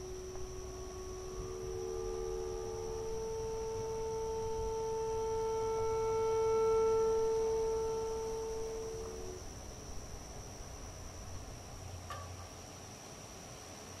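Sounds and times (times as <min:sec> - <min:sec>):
lower clarinet note: 0:00.0 - 0:12.2
clarinet long soft note: 0:00.0 - 0:12.3.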